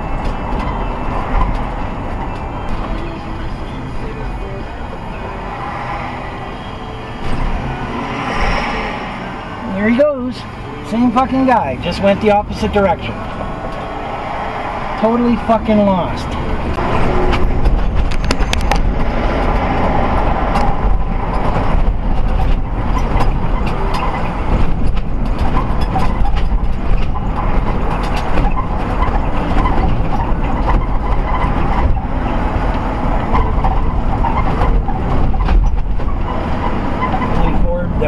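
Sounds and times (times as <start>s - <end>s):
car road and engine noise: 0.0s - 38.0s.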